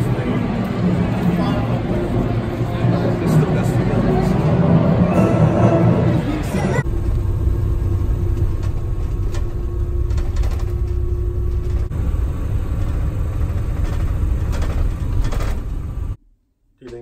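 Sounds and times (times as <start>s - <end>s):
road and engine rumble in vehicle: 0.0s - 16.2s.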